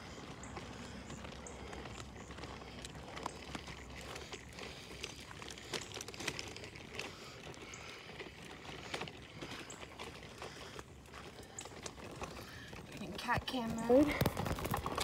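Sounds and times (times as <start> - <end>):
stroller clicks and rattles: 0.0 - 15.0
stroller wheels rolling on concrete: 0.0 - 15.0.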